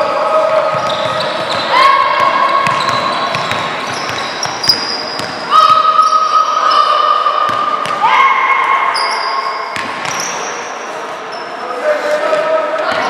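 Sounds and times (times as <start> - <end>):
basketball bouncing in echoing hall: 0.0 - 10.6.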